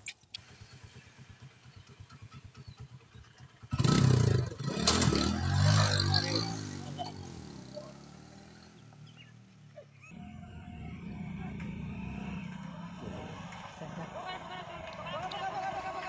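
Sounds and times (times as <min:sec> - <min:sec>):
motorcycle engine revving: 0:00.4 - 0:16.0.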